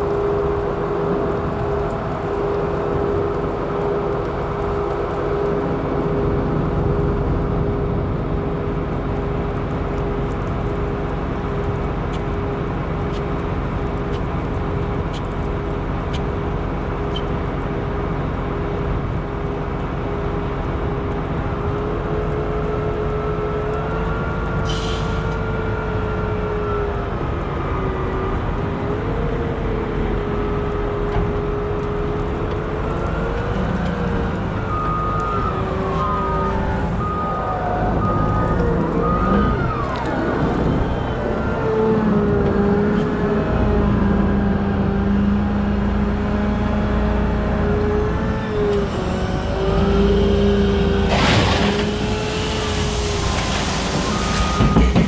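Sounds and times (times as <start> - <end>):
wheel loader diesel engine: 0.0 - 55.0.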